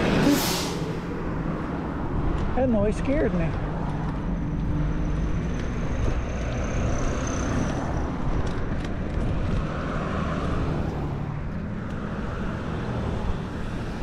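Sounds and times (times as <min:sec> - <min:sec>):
cars passing on street: 0:00.0 - 0:14.0.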